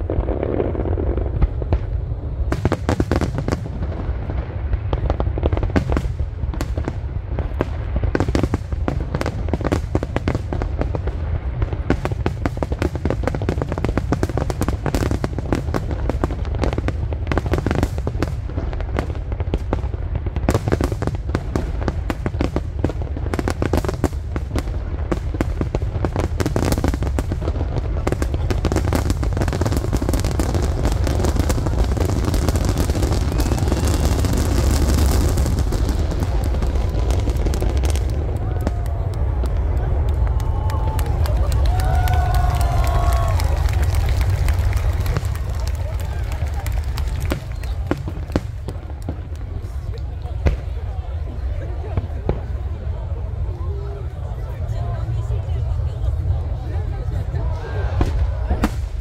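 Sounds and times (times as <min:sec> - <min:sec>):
continuous low rumble: 0:00.0 - 0:59.0.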